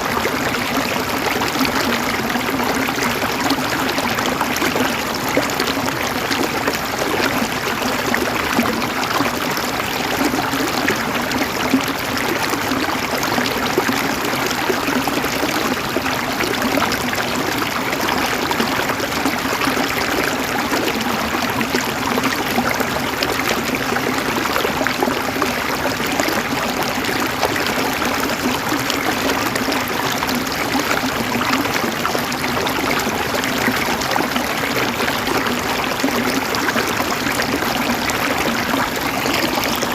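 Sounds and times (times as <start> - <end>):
flowing water babbling: 0.0 - 39.9.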